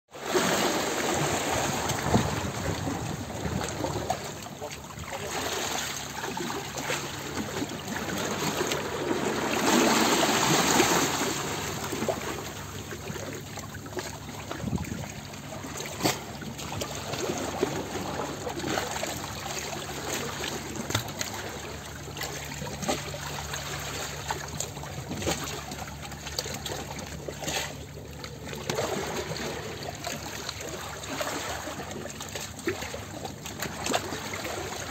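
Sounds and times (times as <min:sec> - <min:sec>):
water trickling and bubbling: 0:00.1 - 0:34.9.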